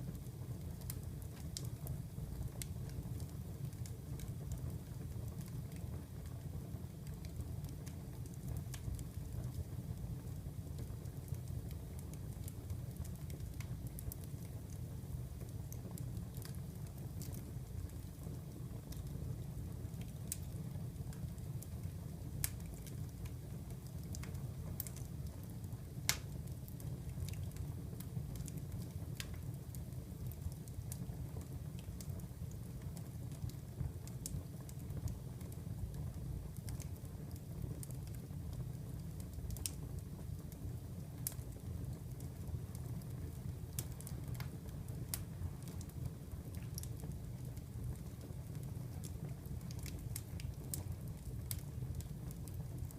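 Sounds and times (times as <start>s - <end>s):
fire popping: 0.0s - 52.9s
wood fire crackling: 0.0s - 52.9s.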